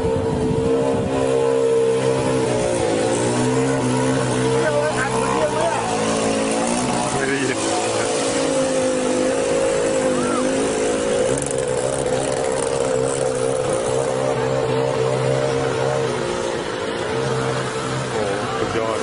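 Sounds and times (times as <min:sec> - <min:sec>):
vehicle engine running: 0:00.0 - 0:19.0
rushing water hissing: 0:01.3 - 0:19.0.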